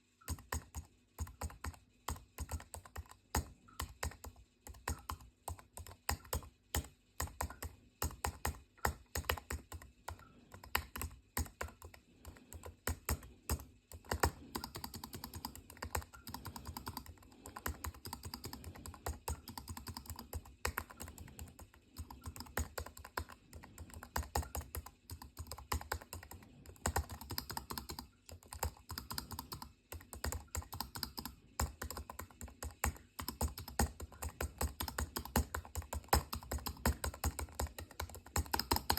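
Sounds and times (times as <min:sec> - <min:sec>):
mechanical keyboard typing: 0:00.2 - 0:38.9.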